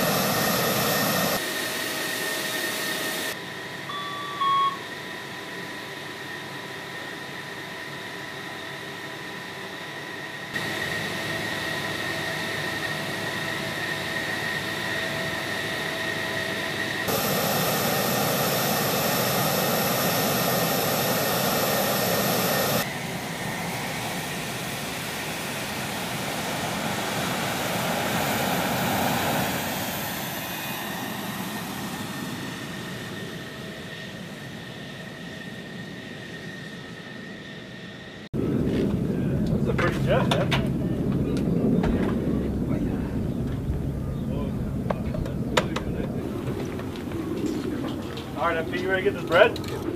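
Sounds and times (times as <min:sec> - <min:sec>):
jet engine whine: 0:00.0 - 0:49.9.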